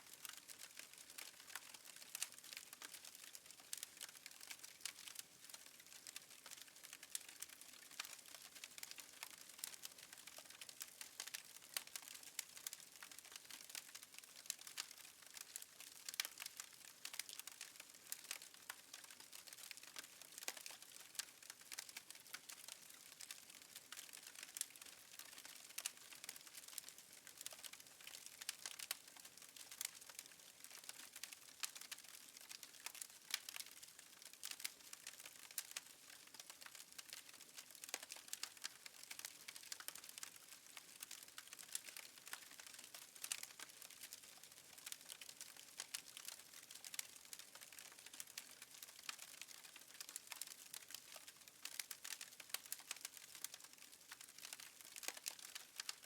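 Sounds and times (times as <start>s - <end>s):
wood fire crackling: 0.1s - 56.0s.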